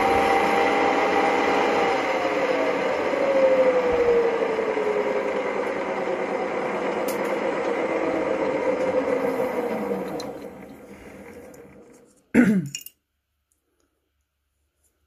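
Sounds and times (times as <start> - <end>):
metal lathe humming: 0.0 - 12.1.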